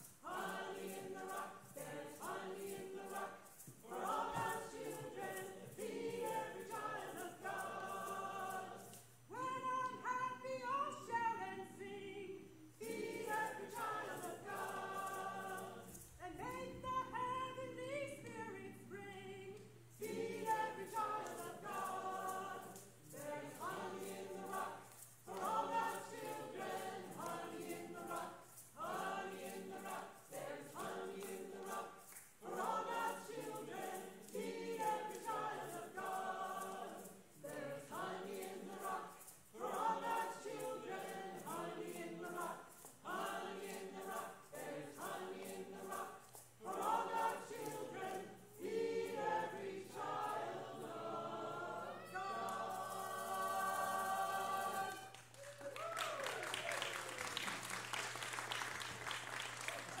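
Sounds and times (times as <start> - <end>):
choir singing: 0.0 - 55.4.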